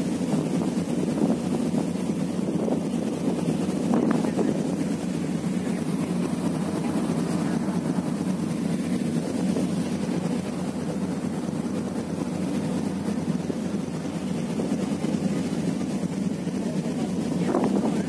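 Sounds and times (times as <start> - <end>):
low rumble of ship: 0.0 - 18.0.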